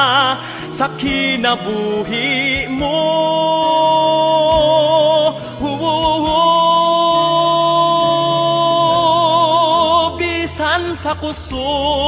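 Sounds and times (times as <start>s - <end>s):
low musical accompaniment: 0.0s - 12.0s
person singing with vibrato: 0.0s - 12.0s.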